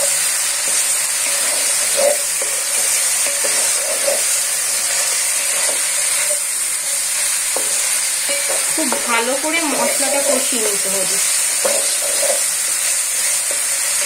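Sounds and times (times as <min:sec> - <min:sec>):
onions sizzling in hot oil: 0:00.0 - 0:14.0
wooden spatula scraping a pan: 0:00.0 - 0:14.0.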